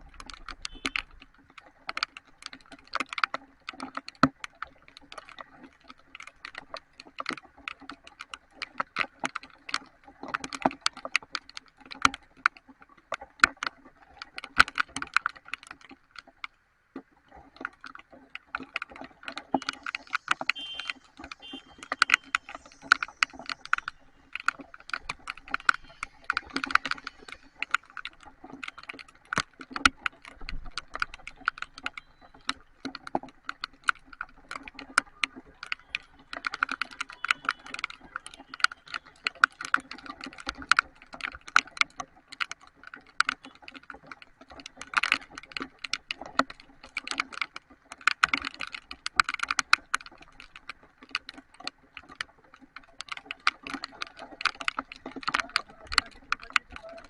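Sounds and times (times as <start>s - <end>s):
raindrops on hard surface: 0.0s - 57.0s.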